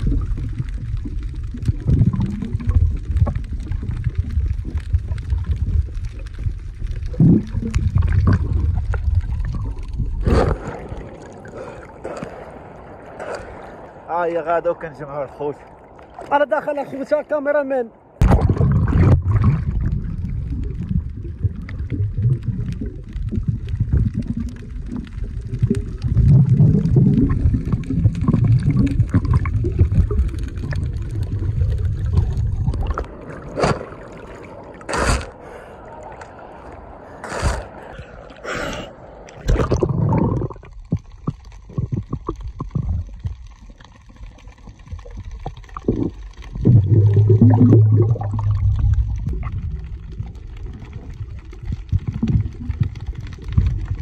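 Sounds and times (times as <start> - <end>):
water churning underwater: 0.0 - 54.0
water splashes: 0.0 - 54.0.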